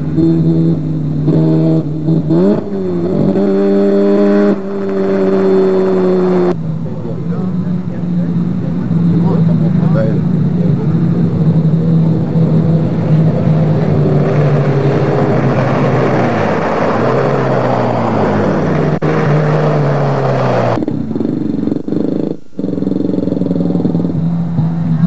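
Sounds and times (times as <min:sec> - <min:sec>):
buggy engine passing close: 0:00.0 - 0:25.0
distant engine drone: 0:00.0 - 0:25.0.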